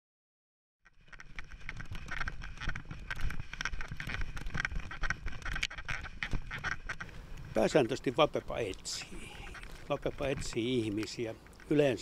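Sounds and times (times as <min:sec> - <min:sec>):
harness knocks and rustles: 0:00.9 - 0:12.0.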